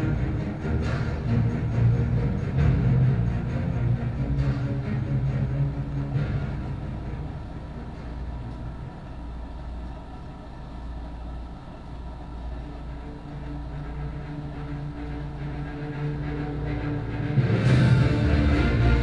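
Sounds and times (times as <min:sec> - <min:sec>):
background music of low notes: 0:00.0 - 0:19.0.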